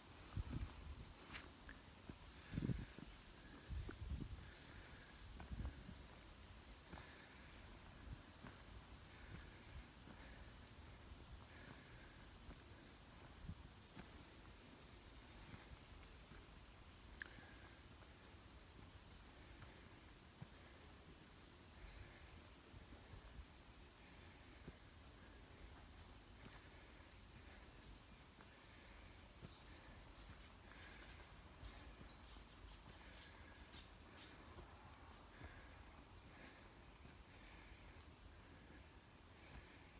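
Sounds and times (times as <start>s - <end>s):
insects chirping chorus: 0.0s - 39.9s.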